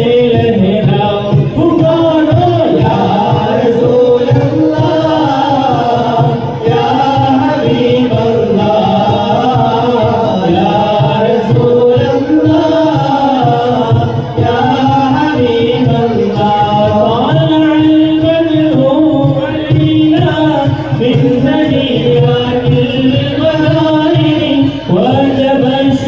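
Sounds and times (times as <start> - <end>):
men singing in unison: 0.0 - 26.0.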